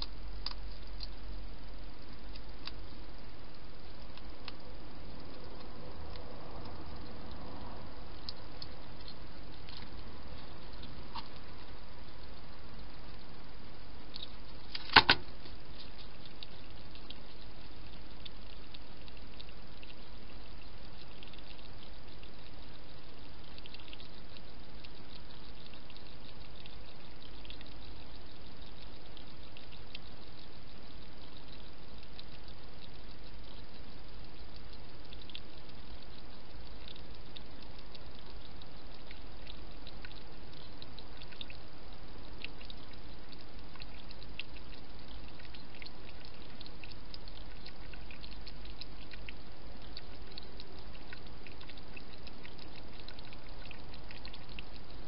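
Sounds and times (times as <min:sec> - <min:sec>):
hedgehog lapping water: 0:00.0 - 0:55.0.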